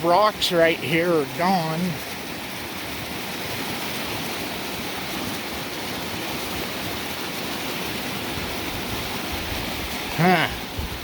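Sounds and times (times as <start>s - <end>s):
creek rushing: 0.0s - 11.0s.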